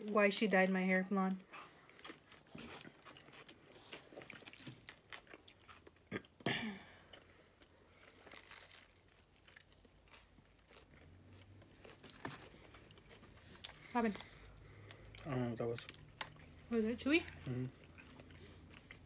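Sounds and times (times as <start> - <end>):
chewing and crunching food: 1.2 - 19.0.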